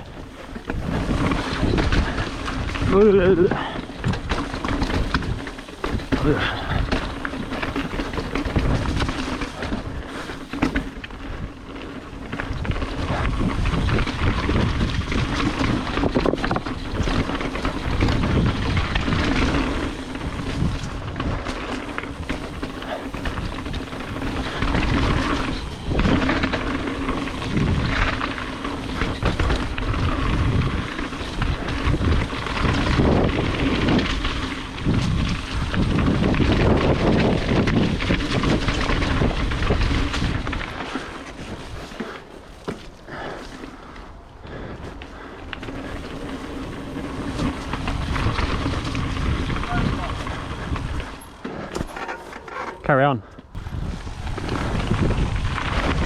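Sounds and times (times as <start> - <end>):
bike rattling over rough ground: 0.0 - 56.0
tyre rumble: 0.0 - 56.0
wind buffeting microphone: 0.0 - 56.0.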